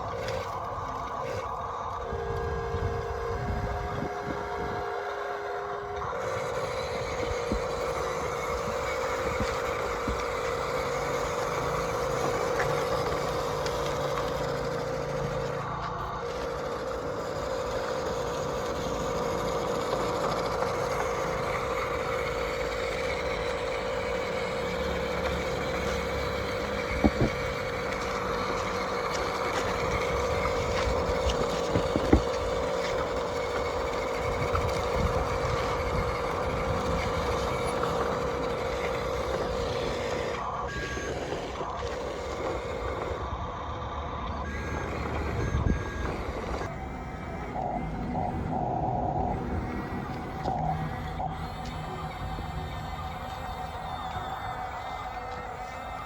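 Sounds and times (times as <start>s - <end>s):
electric motor and gears whirring: 0.0s - 56.0s
reversing alarm tone: 0.0s - 56.0s.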